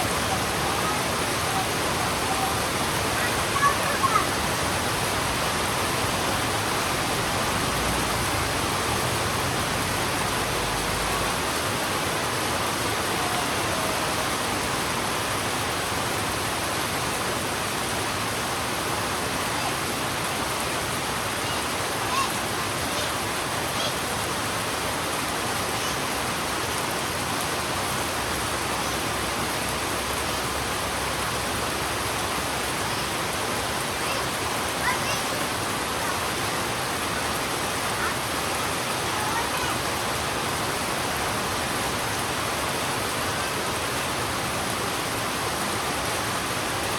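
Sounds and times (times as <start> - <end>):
heavy rain on a road: 0.0 - 46.9.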